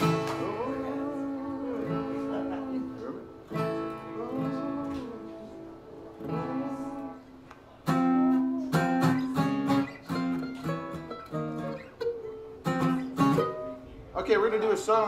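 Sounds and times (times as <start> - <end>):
acoustic guitar chords: 0.0 - 14.6.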